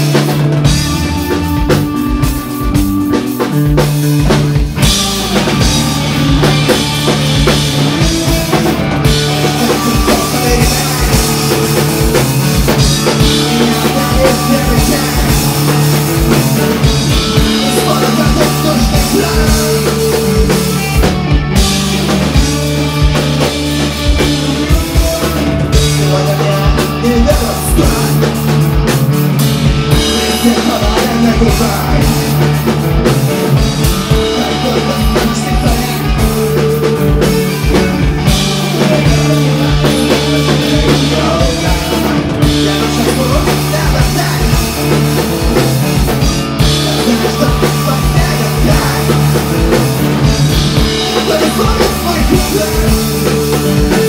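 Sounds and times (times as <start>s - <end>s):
drum kit hitting: 0.0s - 54.0s
live rock band playing: 0.0s - 54.0s.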